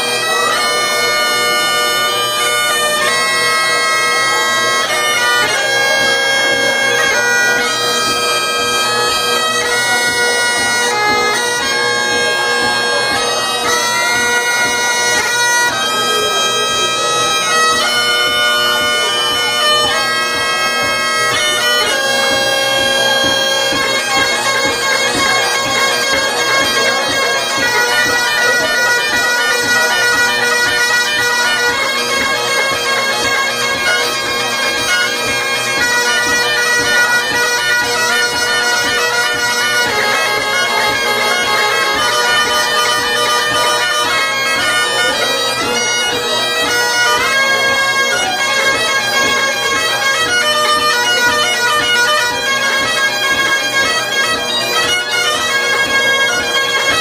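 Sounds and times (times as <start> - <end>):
bagpipes playing: 0.0 - 57.0.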